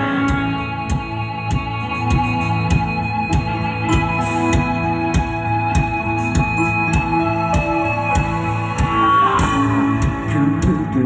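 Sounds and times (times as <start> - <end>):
electric guitar: 0.0 - 11.0
steady drum beat: 0.0 - 11.0.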